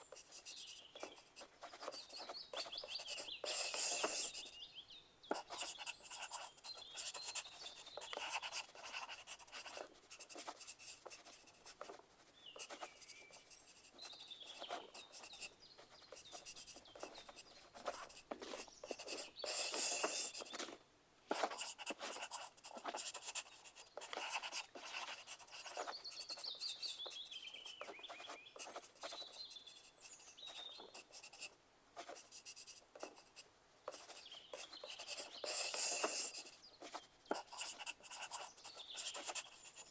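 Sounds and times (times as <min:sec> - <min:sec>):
pencils scratching on paper: 0:00.0 - 0:04.6, 0:05.3 - 0:39.9.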